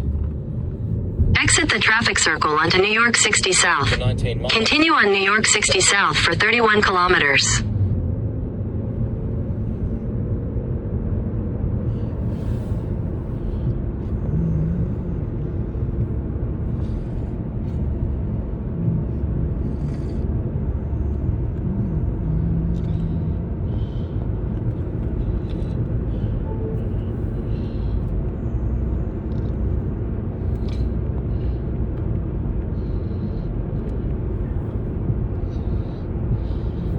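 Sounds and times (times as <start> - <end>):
car road and engine rumble: 0.0 - 36.9.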